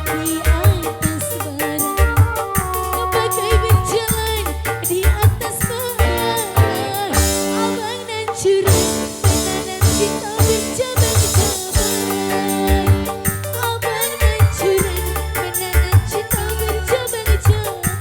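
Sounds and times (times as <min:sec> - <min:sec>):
electronic keyboard with drum beat: 0:00.0 - 0:18.0
person singing: 0:00.0 - 0:18.0.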